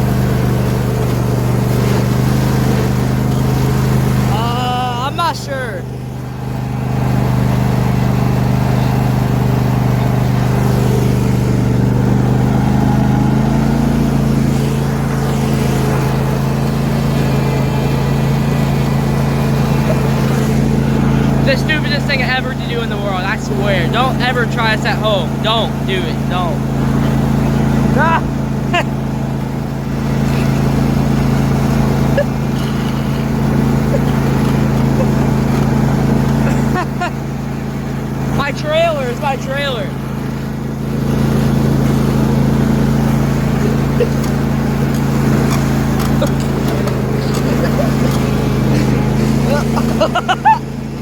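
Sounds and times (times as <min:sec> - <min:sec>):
lawn tractor engine running: 0:00.0 - 0:51.0.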